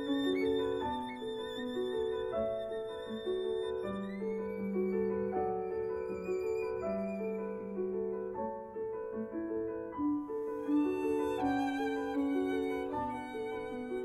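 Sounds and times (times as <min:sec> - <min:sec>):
violin playing slow melody: 0:00.0 - 0:08.0, 0:10.3 - 0:14.0.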